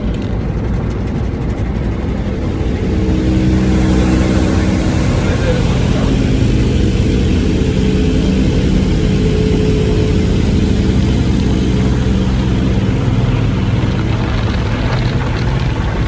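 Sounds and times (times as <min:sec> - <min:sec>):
car wash equipment rumble: 0:00.0 - 0:16.0.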